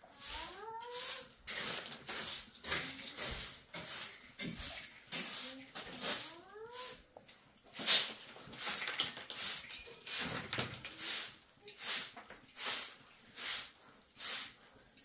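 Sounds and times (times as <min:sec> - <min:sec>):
broom sweeping concrete floor: 0:00.0 - 0:15.0.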